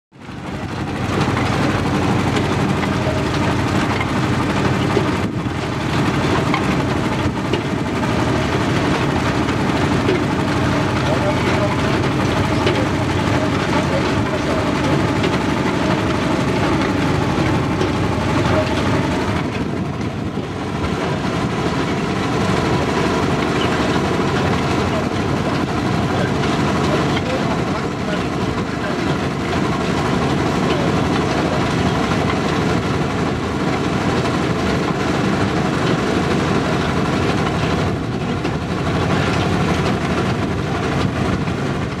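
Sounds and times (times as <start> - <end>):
diesel engine droning: 0.1 - 42.0.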